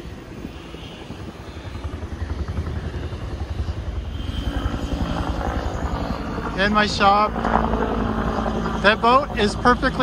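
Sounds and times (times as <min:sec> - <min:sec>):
pulsing vehicle rumble: 0:00.0 - 0:10.0.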